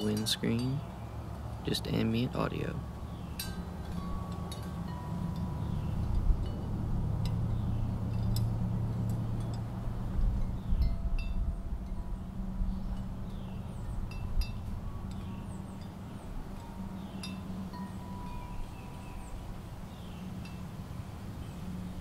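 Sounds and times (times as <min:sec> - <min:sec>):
wind buffeting microphone: 0:00.0 - 0:22.0
high tinkling clinks and chirps: 0:02.6 - 0:21.6.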